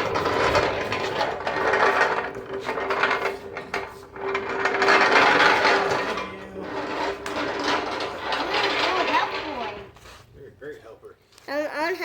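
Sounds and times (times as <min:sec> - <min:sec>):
shop roller wheels rattling: 0:00.0 - 0:11.0.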